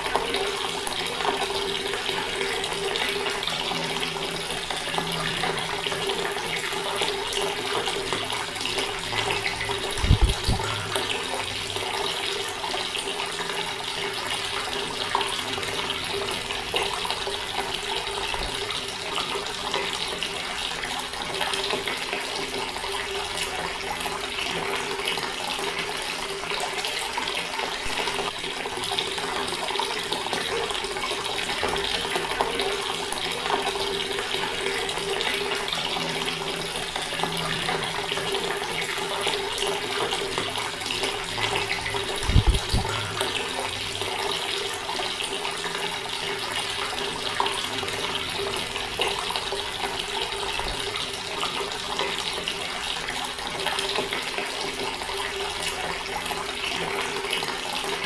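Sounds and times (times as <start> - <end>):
water tap running: 0.0 - 58.0.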